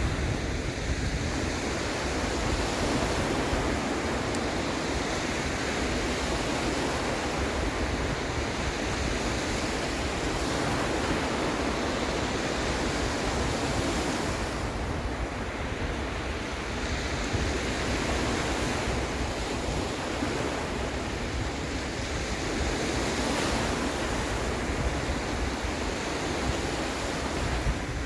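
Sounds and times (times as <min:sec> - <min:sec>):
sea surf washing in: 0:00.0 - 0:28.0
wind on microphone: 0:00.0 - 0:28.0.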